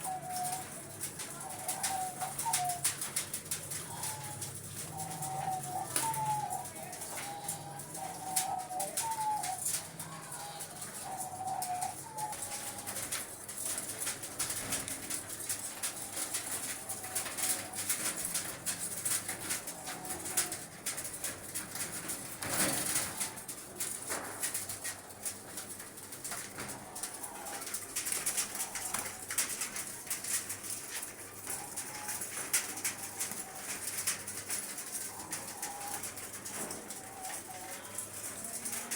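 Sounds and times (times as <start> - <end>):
clicks and rustles: 0.0 - 38.9
doves cooing: 0.0 - 38.9.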